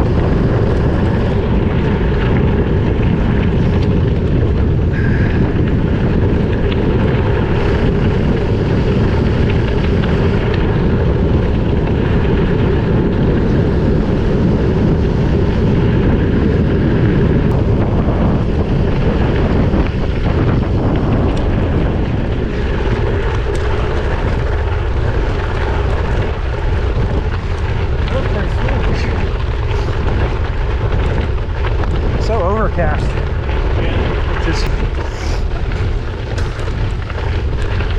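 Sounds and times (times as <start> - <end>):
deep rumble: 0.0 - 37.9
wind buffeting microphone: 0.0 - 37.9.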